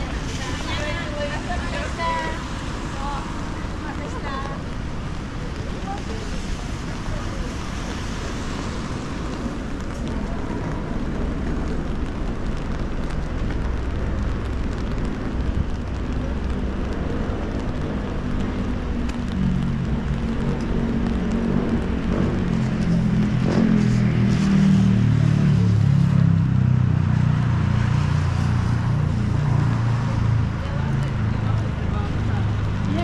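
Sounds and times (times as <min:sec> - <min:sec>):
vehicle engine hum: 0:00.0 - 0:33.0
wet traffic: 0:00.0 - 0:33.0.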